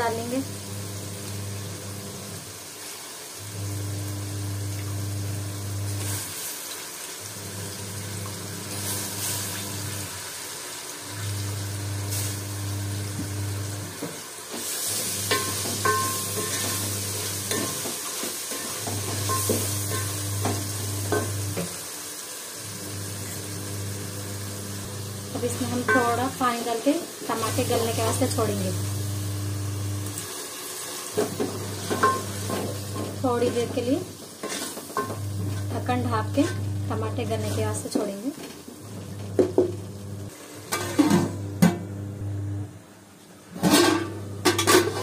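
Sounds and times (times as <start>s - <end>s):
sauce sizzling in a pot: 0.0s - 43.5s.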